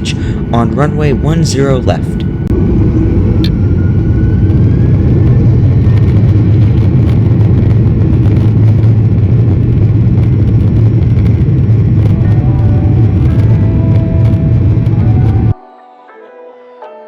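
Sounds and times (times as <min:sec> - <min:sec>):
jet engine whine: 0:00.0 - 0:15.6
jet engines rumbling at takeoff: 0:00.0 - 0:15.6.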